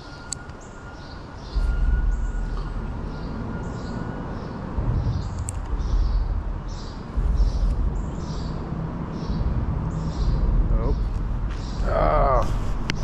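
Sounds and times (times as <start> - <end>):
small bird chirping: 0.0 - 13.0
low rumble: 0.8 - 13.0.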